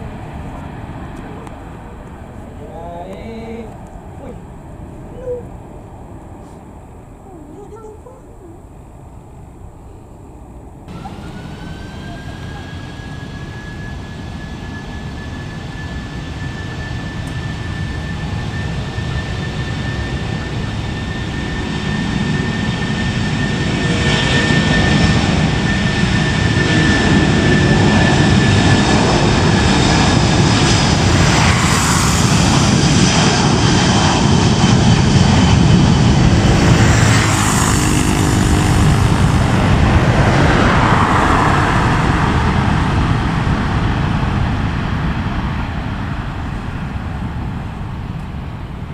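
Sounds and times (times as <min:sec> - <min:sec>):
jet engines at takeoff: 0:00.0 - 0:07.7, 0:08.6 - 0:48.9.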